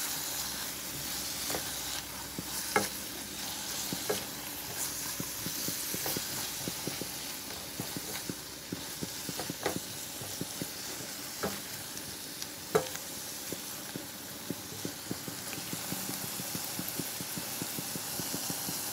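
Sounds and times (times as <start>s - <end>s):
food sizzling in frying pan: 0.0s - 18.9s
spatula scraping and tapping pan: 0.0s - 18.9s.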